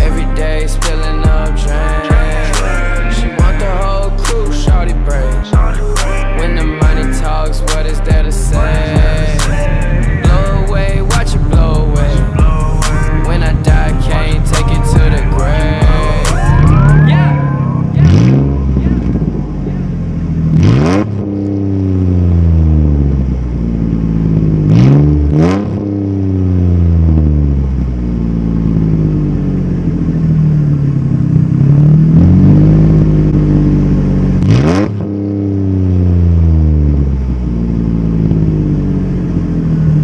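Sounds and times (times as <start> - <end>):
car engine revving while driving: 0.0 - 40.0.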